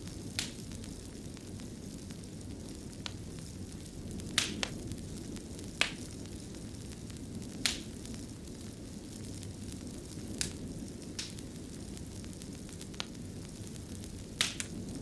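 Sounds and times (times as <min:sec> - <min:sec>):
fire sharp pops: 0:00.0 - 0:15.0
low rumble of burning: 0:00.0 - 0:15.0.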